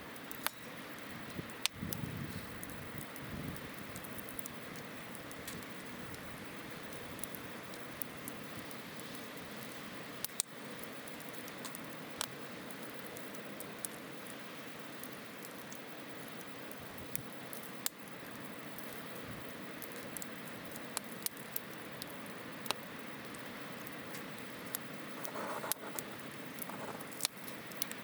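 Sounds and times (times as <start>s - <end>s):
campfire hissing and crackling: 0.0s - 28.0s.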